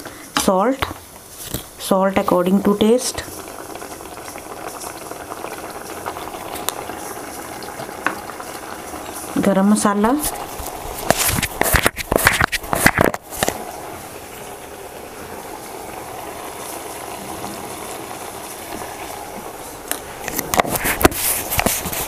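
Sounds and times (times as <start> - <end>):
gravy bubbling at a simmer: 0.7 - 22.0.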